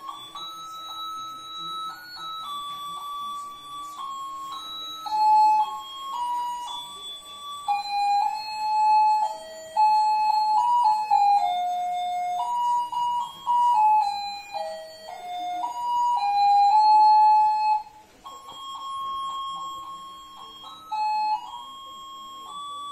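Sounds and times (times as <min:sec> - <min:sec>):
beeping electronic melody: 0:00.0 - 0:22.9.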